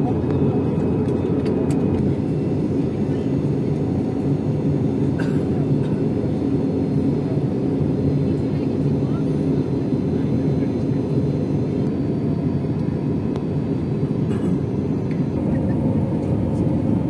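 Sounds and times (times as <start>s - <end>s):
airliner cabin jet rumble: 0.0s - 17.0s.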